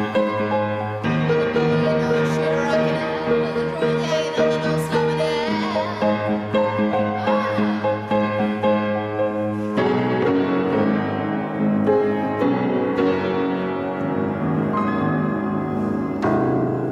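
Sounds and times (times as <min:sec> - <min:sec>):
piano chords: 0:00.0 - 0:16.9.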